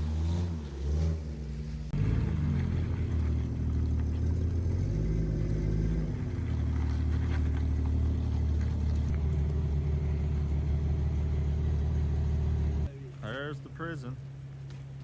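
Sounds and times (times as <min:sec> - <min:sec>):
car engine running while driving: 0:00.0 - 0:15.0.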